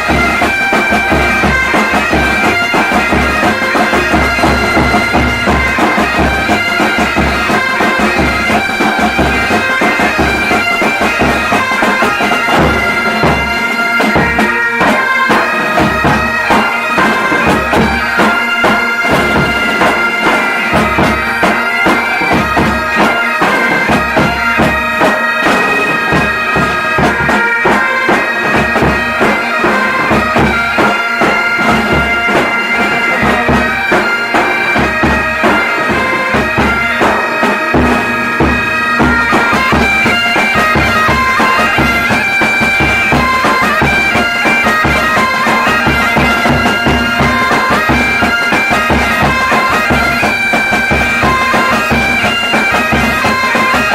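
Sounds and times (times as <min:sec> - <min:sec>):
bagpipes playing folk tune: 0:00.0 - 0:53.9
drums beating: 0:00.0 - 0:53.9.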